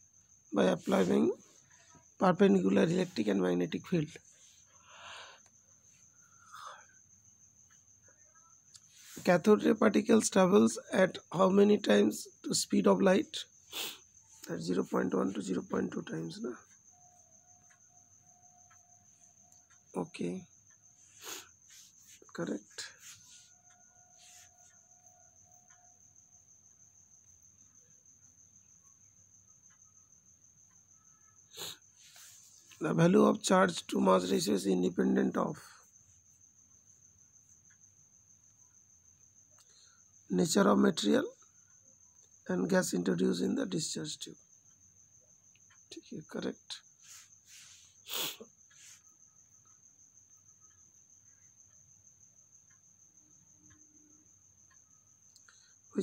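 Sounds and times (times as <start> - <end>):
faint high-pitched whine: 0.0 - 56.0.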